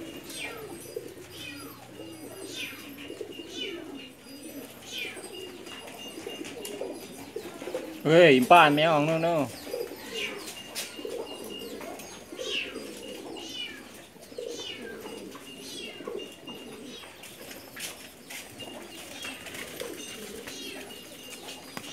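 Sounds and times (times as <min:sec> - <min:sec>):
pigeons cooing: 0:00.0 - 0:21.9.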